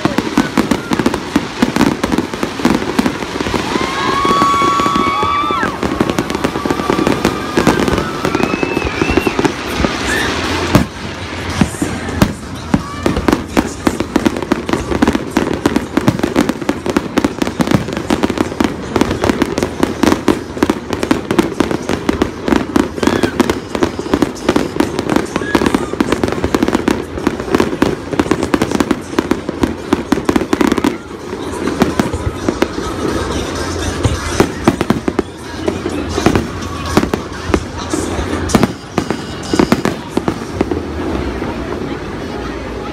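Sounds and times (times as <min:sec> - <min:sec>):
crowd chatter: 0:00.0 - 0:42.9
fireworks bangs and crackles: 0:00.0 - 0:42.9
fireworks whistling: 0:00.0 - 0:42.9.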